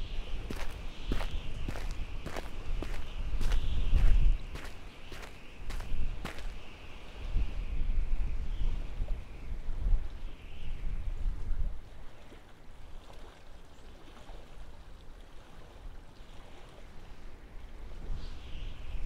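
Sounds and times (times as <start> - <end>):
wind rumbling on microphone: 0.0 - 13.2, 14.3 - 19.0.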